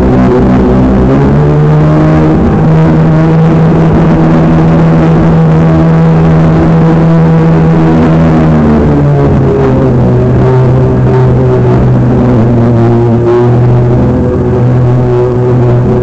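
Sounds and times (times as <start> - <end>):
model speedboat motor running: 0.0 - 16.0
water rushing: 0.0 - 16.0.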